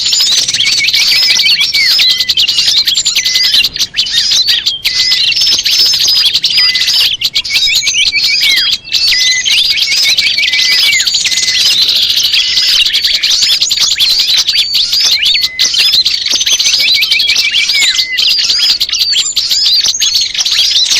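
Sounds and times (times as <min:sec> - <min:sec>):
songbirds chirping and trilling: 0:00.0 - 0:20.9.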